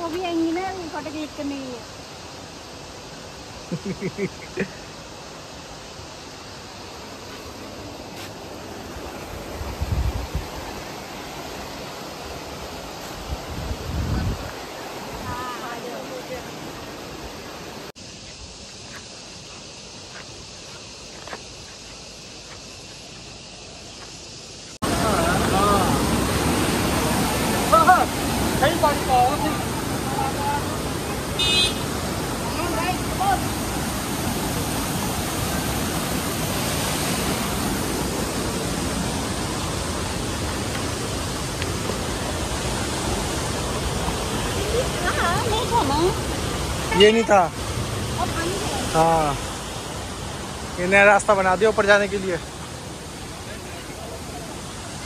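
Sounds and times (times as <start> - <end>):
outdoor background noise: 0.0 - 55.0
waterfall rushing over boulders: 0.0 - 55.0.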